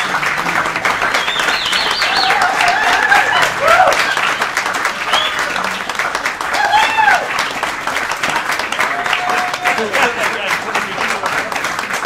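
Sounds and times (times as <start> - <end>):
audience clapping: 0.0 - 12.0
cheering voices: 0.0 - 12.0.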